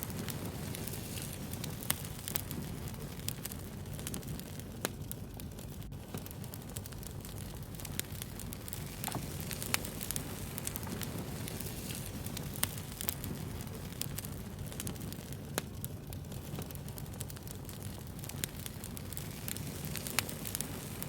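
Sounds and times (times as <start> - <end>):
sharp pops of fire: 0.0 - 21.0
wood fire crackling: 0.0 - 21.0.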